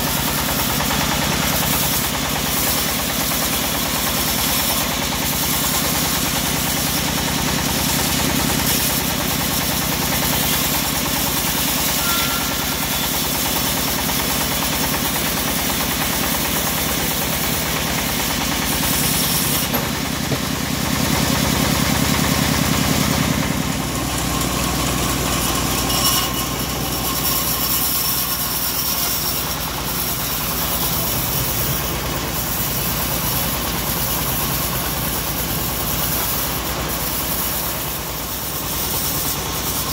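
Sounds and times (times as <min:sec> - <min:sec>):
band blade sawing log: 0:00.0 - 0:39.9
bandsaw mill engine throbbing: 0:00.0 - 0:39.9.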